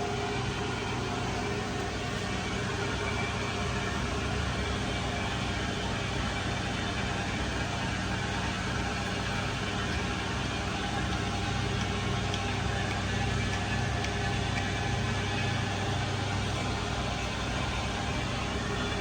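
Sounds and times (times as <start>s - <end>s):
brake lathe humming: 0.1s - 19.0s.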